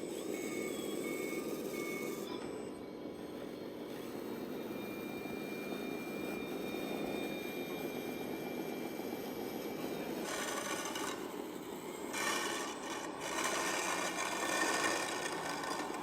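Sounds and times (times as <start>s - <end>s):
model tractor engine drone: 0.0s - 16.0s.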